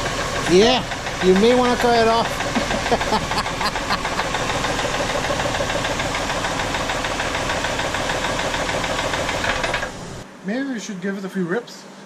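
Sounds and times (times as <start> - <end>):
car engine with rapid rod knock: 0.0 - 10.2.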